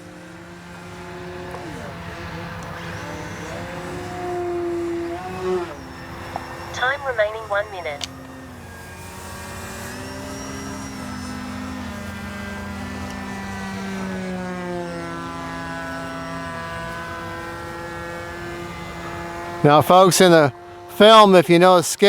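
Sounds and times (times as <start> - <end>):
rc plane motor whine: 0.0 - 19.8.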